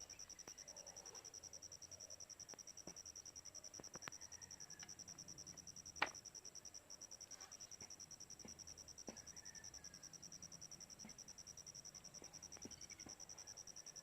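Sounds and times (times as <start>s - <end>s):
faint insect trilling: 0.0s - 14.0s.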